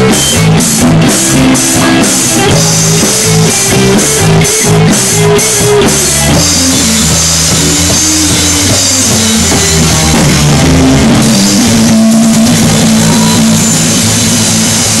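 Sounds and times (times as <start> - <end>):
bass guitar: 0.0 - 15.0
drum kit with cymbals: 0.0 - 15.0
electric guitar: 0.0 - 15.0.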